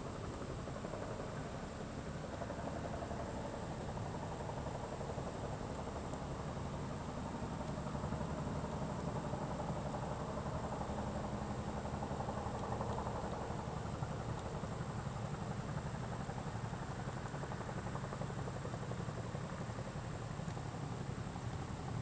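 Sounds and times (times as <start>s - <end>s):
campfire flame rumble: 0.1s - 22.0s.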